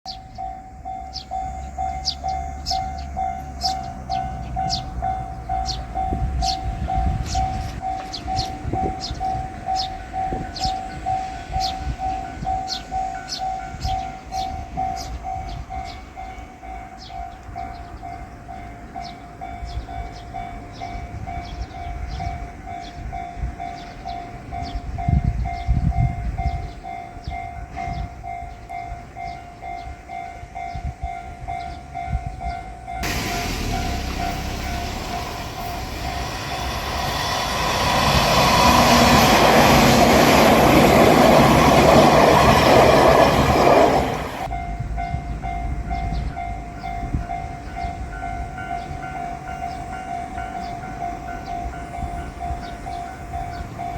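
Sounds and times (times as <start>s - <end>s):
electric train passing: 0.1s - 53.9s
level-crossing alarm bell: 0.1s - 53.9s.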